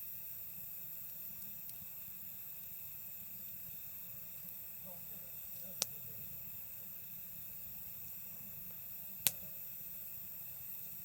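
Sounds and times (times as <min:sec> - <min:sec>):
night insects chirring: 0:00.0 - 0:11.0
wood fire crackling: 0:00.2 - 0:11.0.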